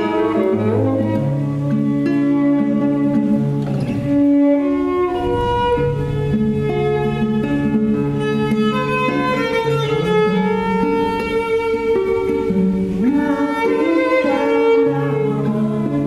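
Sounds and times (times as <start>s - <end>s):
bowed violin melody: 0.0s - 16.0s
plucked acoustic guitar: 0.0s - 16.0s.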